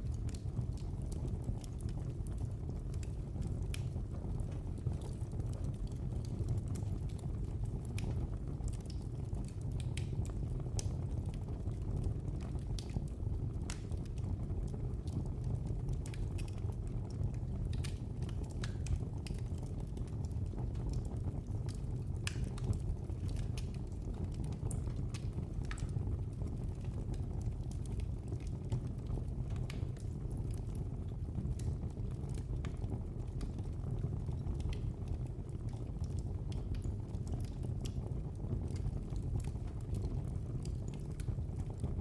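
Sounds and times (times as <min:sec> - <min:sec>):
fire crackling and popping: 0:00.0 - 0:42.0
fire flames rumbling: 0:00.0 - 0:42.0.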